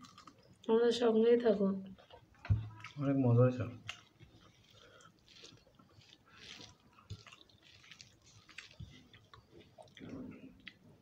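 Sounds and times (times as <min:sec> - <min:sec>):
chewing: 0:00.0 - 0:00.7, 0:01.9 - 0:11.0
fingers mixing soft food: 0:02.0 - 0:10.9.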